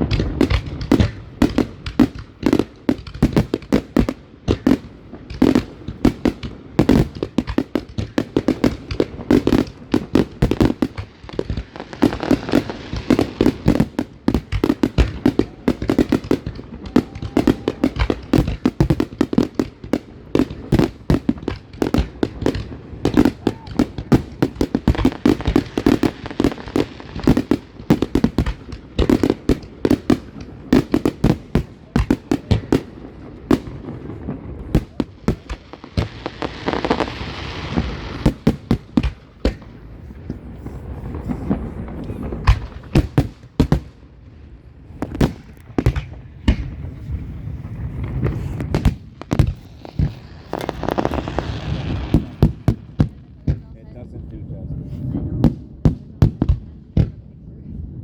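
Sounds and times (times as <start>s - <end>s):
fireworks bangs and pops: 0.0s - 57.4s
fireworks crackling: 0.0s - 57.5s.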